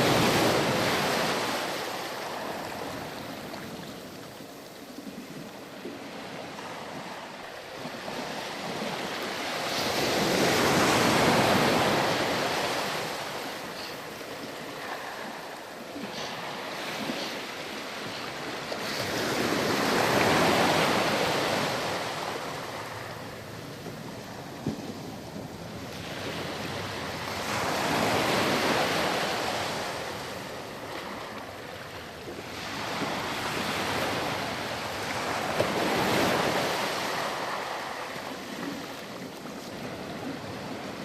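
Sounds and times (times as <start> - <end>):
ocean waves crashing on beach: 0.0 - 41.0.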